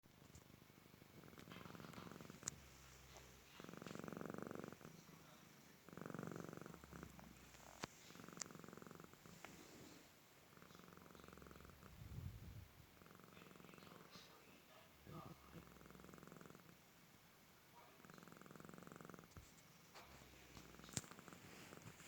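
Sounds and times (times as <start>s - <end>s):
soft snoring: 0.3s - 16.8s, 18.0s - 22.0s.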